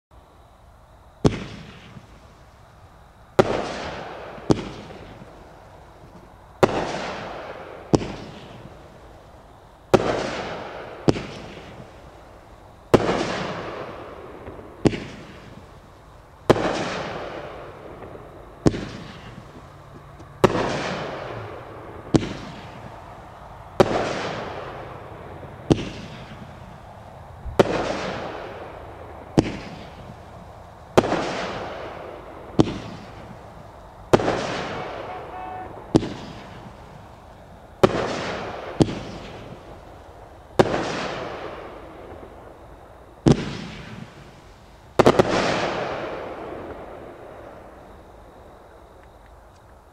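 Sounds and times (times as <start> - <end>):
fireworks bangs: 1.2 - 2.4, 3.4 - 9.2, 9.9 - 42.6, 43.2 - 47.8
fireworks hiss: 1.2 - 49.8.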